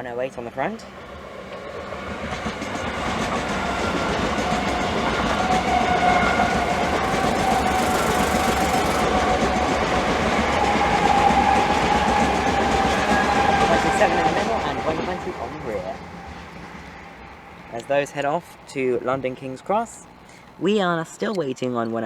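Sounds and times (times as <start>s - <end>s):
train wheels rumbling on rail: 0.0s - 20.7s
electric train whine: 0.0s - 20.8s.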